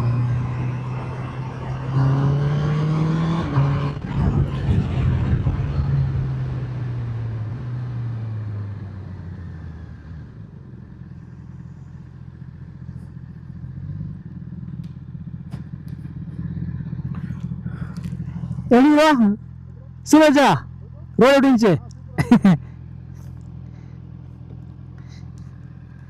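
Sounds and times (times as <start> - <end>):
motorcycle engine slowing: 0.0 - 20.1, 21.8 - 26.0.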